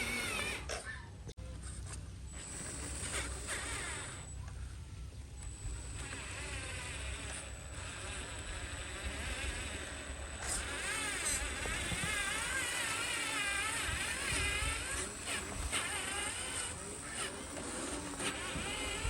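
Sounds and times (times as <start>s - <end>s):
toy electric motors whining: 0.0s - 19.0s.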